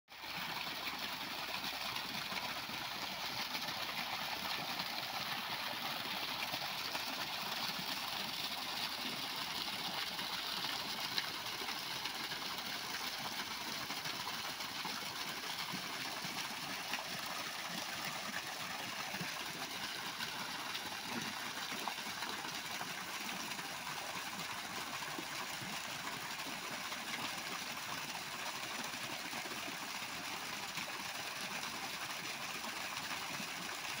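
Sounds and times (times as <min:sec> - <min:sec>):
water gushing from a hose: 0:00.1 - 0:34.0.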